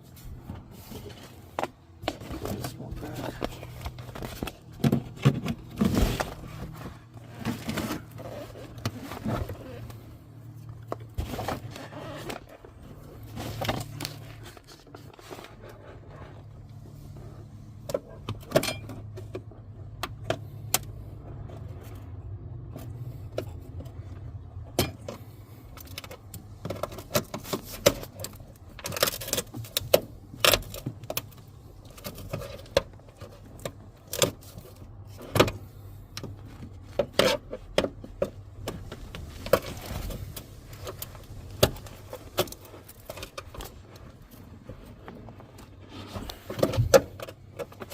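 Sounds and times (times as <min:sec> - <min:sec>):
tools and parts rattling: 0:00.3 - 0:16.5, 0:17.8 - 0:19.5, 0:21.5 - 0:47.9.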